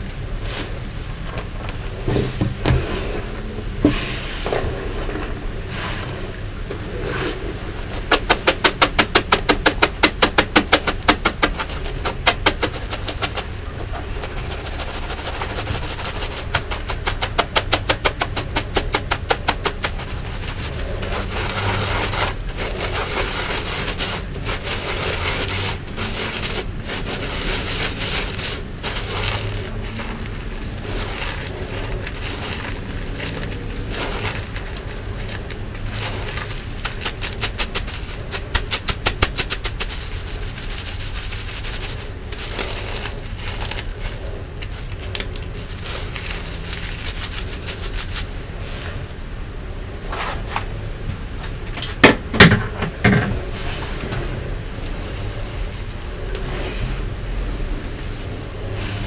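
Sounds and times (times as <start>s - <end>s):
powder rubbed through mesh sieve: 0.0s - 50.6s, 53.4s - 59.0s.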